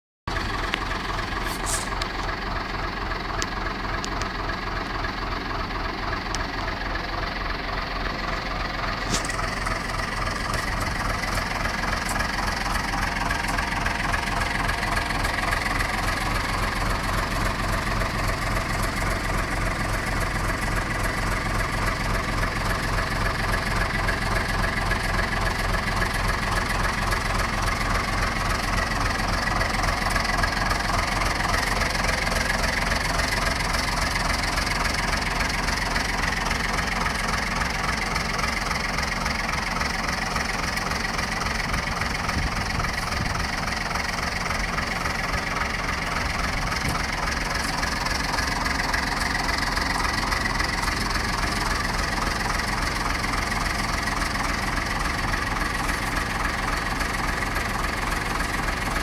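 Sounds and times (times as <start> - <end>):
lorry engine idling: 0.3 - 59.0.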